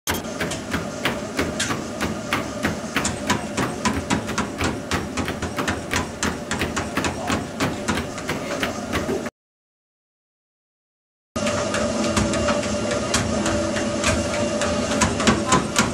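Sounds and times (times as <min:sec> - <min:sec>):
running shoes striking treadmill belt: 0:00.2 - 0:09.3, 0:11.4 - 0:15.9
treadmill hum: 0:00.2 - 0:09.3, 0:11.4 - 0:15.9.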